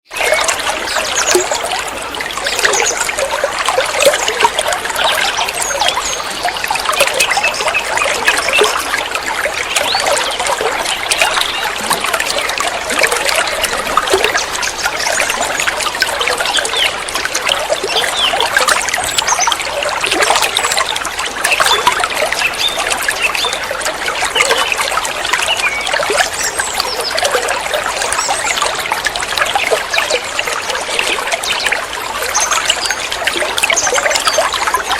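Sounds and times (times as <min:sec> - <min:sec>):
water babbling over stones: 0:00.1 - 0:34.9.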